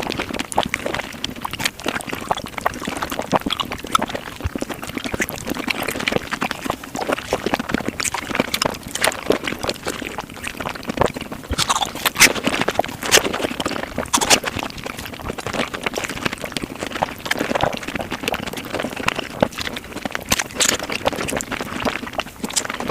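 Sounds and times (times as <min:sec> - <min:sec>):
sped-up chewing and smacking: 0:00.0 - 0:22.9.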